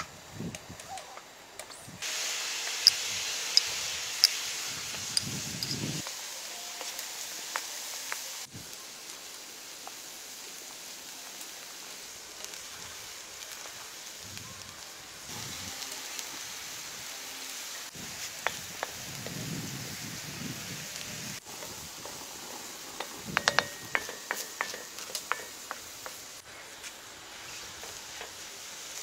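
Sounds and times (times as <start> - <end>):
meat sizzling in a pan: 2.0 - 29.0.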